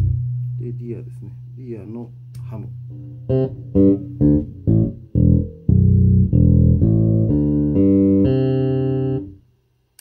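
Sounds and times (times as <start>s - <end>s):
plucked electric bass notes: 0.0s - 9.4s.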